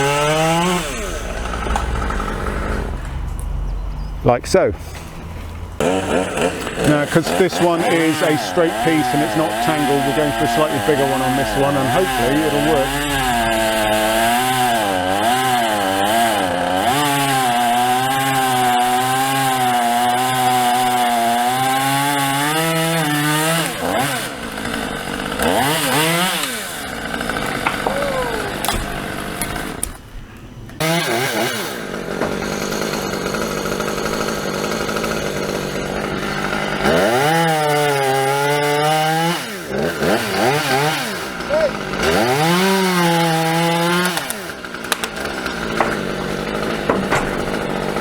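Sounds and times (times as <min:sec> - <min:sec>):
chainsaw cutting wood: 0:00.0 - 0:03.4, 0:05.8 - 0:30.1, 0:30.8 - 0:48.0.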